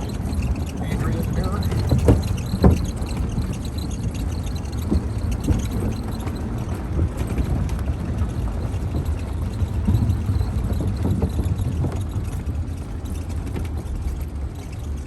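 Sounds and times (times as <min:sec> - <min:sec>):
golf cart driving: 0:00.0 - 0:15.0
small knocks and rattles: 0:00.0 - 0:15.0.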